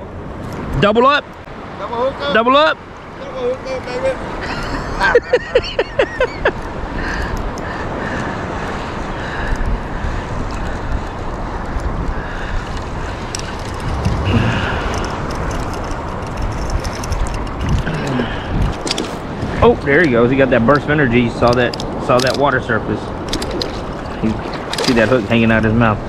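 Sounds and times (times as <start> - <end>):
surf water washing: 0.0 - 26.0
wind buffeting microphone: 0.0 - 26.0.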